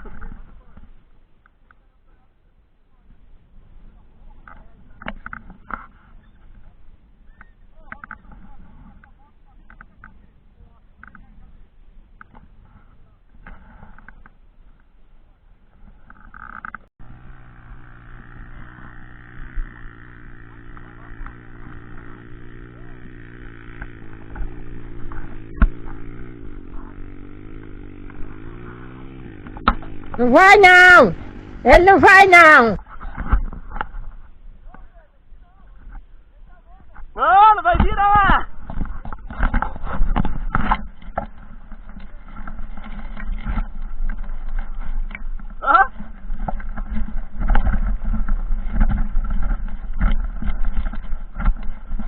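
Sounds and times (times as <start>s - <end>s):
dirt bike engine at low revs: 0.0s - 52.0s.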